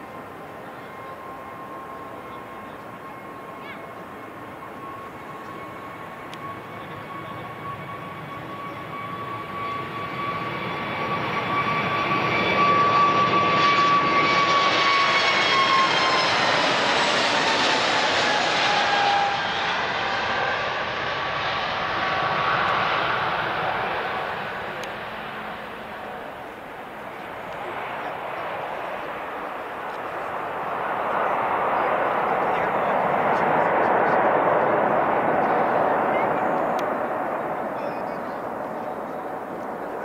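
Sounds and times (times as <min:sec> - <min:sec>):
jet engines at takeoff thrust: 0:00.0 - 0:40.0.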